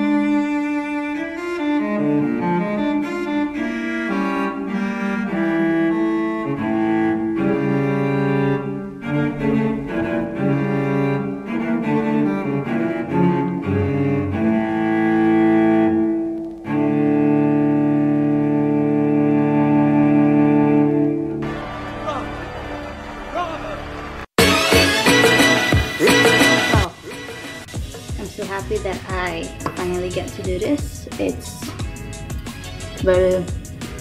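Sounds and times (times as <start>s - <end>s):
background music melody: 0.0s - 34.0s.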